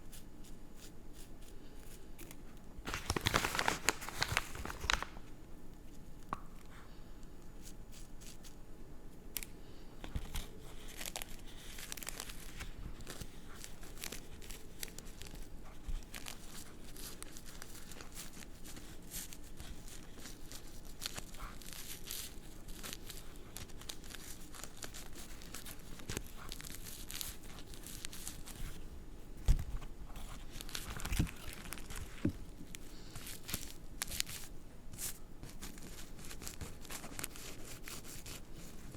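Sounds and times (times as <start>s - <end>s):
rolling paper and tobacco crinkling: 0.1s - 5.4s, 9.4s - 38.9s.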